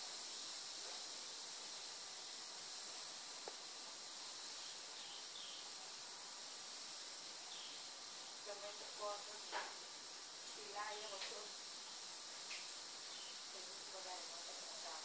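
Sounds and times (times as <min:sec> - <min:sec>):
faint high hiss: 0:00.0 - 0:15.0.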